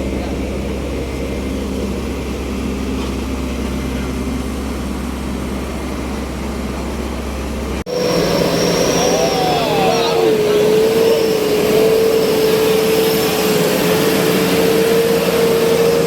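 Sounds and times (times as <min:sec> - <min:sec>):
engine hum with high whine: 0:00.0 - 0:16.0
vehicle engine droning: 0:00.0 - 0:16.0.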